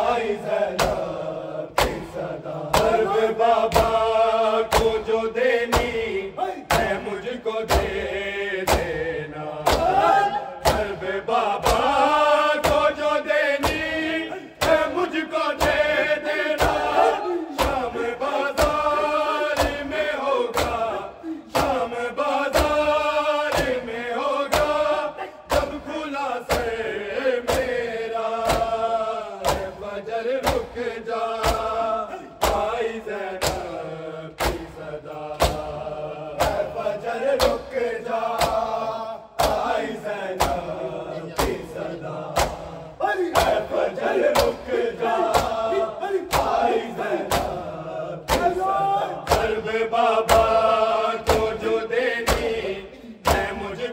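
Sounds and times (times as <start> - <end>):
men chanting in unison: 0.0 - 53.9
hands slapping chest: 0.7 - 15.0, 15.6 - 23.9, 24.5 - 25.8, 26.5 - 26.8, 27.4 - 27.8, 28.4 - 29.8, 30.4 - 30.8, 31.4 - 35.8, 36.4 - 36.8, 37.4 - 37.7, 38.3 - 38.8, 39.4 - 40.8, 41.4 - 41.7, 42.4 - 47.7, 48.3 - 49.6, 50.2 - 51.6, 52.2 - 53.6.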